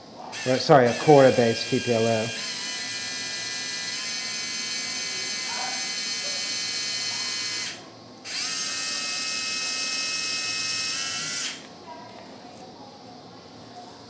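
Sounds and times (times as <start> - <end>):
surgical pin driver whining: 0.3 - 11.7.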